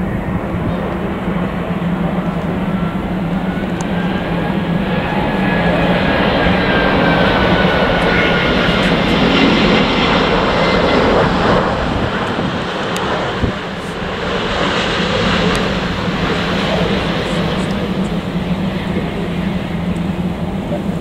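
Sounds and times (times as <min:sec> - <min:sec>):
faint high engine whine: 0:00.0 - 0:21.0
jet airliner rush and rumble: 0:00.0 - 0:21.0.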